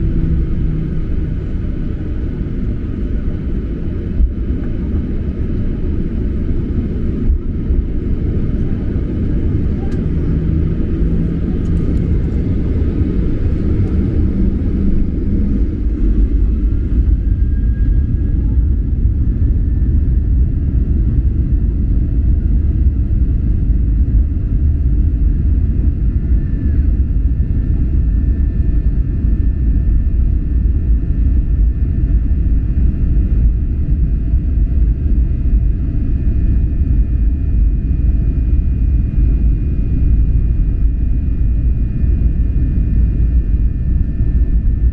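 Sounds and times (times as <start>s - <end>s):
jet engine rumble: 0.0s - 44.9s
thin jet engine whine: 0.0s - 44.9s.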